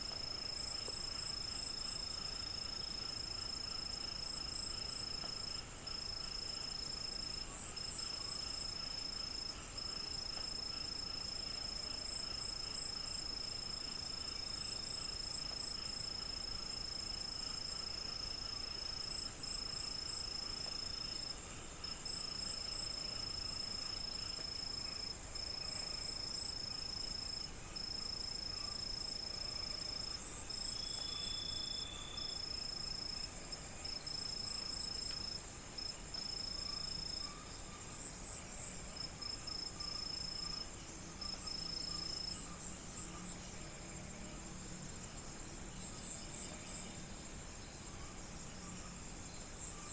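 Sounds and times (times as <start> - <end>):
cricket high continuous trill: 0.0 - 49.9
crickets fast pulsing chirps: 0.0 - 49.9.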